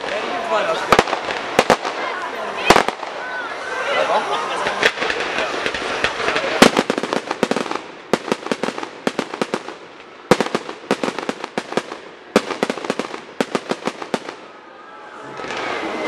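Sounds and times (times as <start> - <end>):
heavy firework bangs: 0.0 - 3.3, 4.6 - 14.6
fireworks cracking and popping: 0.0 - 3.4, 4.2 - 14.6, 15.3 - 16.0.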